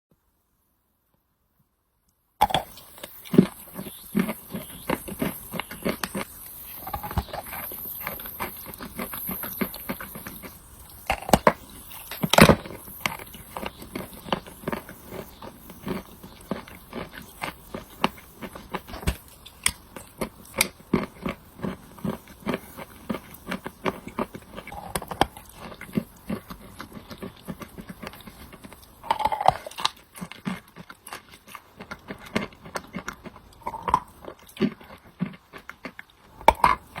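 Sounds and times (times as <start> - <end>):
person chewing crunchy chalk: 2.4 - 37.0.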